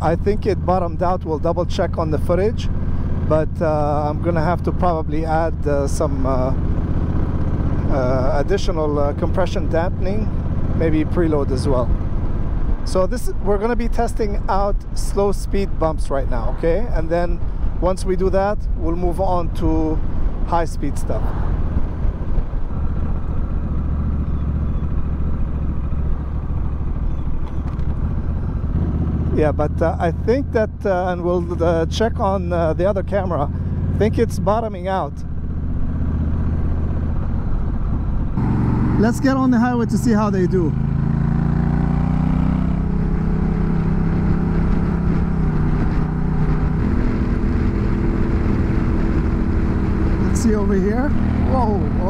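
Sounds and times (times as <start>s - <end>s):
motorcycle engine running: 0.0s - 52.0s
road and wind noise: 0.0s - 52.0s.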